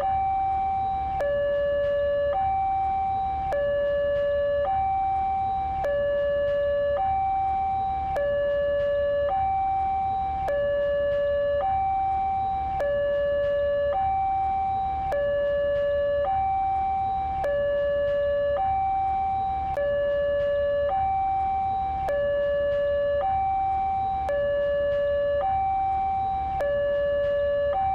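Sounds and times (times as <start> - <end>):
low steady hum: 0.0 - 27.9
two-tone electronic siren: 0.0 - 27.9.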